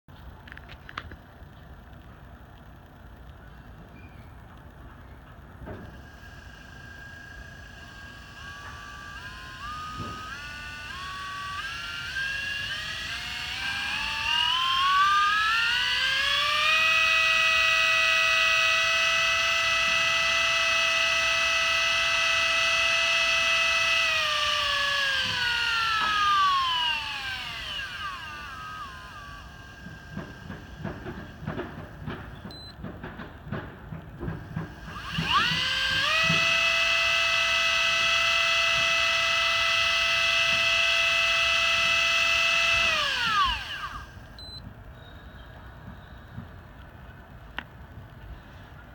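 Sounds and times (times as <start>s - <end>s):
electric reel motor whine: 0.5s - 32.9s, 34.2s - 48.9s.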